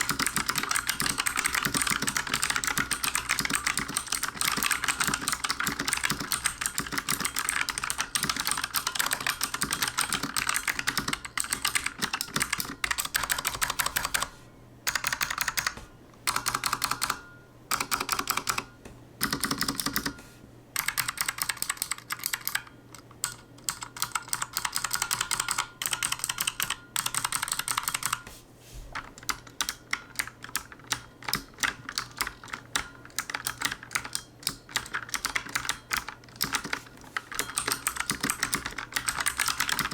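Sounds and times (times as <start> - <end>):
mechanical keyboard typing clicks: 0.0 - 14.3, 14.9 - 20.2, 20.8 - 28.2, 29.0 - 39.9.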